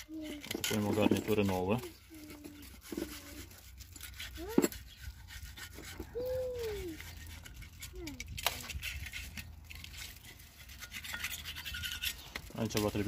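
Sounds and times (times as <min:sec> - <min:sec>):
screwdriver scratching on gasket: 0:00.0 - 0:13.0.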